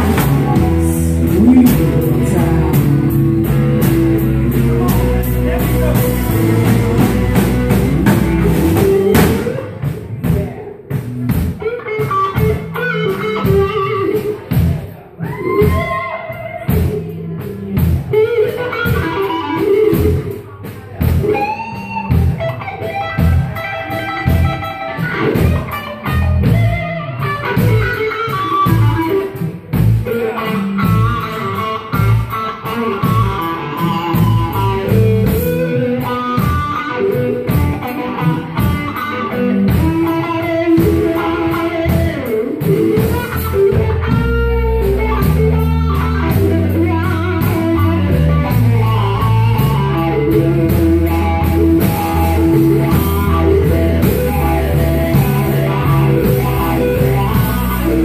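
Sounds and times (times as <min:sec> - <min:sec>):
drum kit: 0:00.0 - 0:58.0
electric guitar with bending notes: 0:00.0 - 0:58.0.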